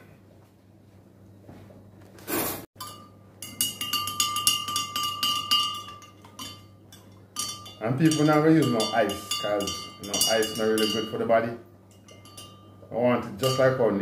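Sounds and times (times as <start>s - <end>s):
spoon clinking against glass: 2.8s - 14.0s.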